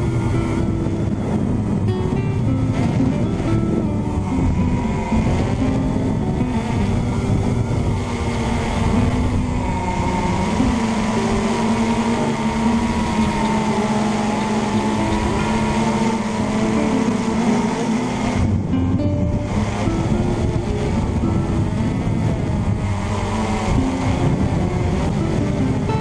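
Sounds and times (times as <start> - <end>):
quadcopter propellers buzzing: 0.0 - 26.0.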